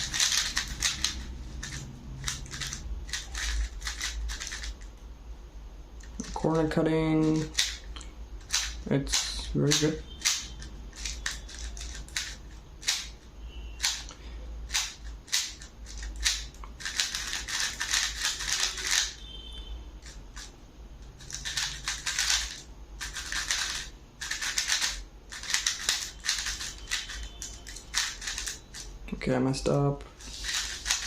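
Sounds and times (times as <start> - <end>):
puzzle cube plastic clicks: 0.0 - 4.9, 7.2 - 13.2, 13.8 - 19.2, 21.1 - 28.9, 30.2 - 31.0.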